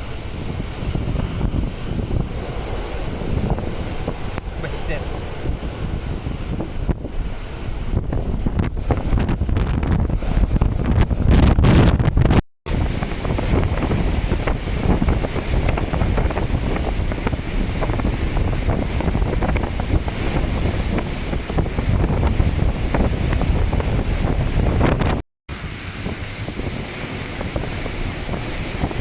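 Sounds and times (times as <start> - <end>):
heavy rain falling: 0.0 - 7.6, 12.7 - 29.0
wind buffeting microphone: 0.0 - 29.0.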